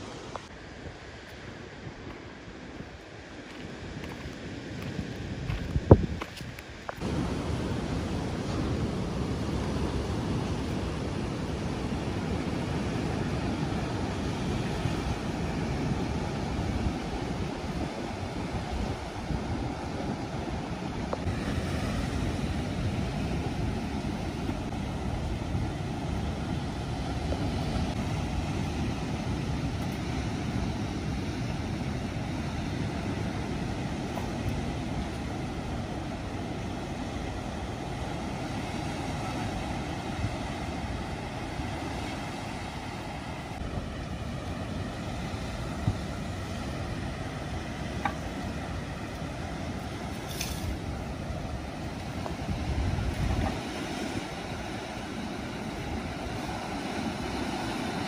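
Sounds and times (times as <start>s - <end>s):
surf rushing: 0.0s - 58.0s
wind buffeting microphone: 0.0s - 58.0s.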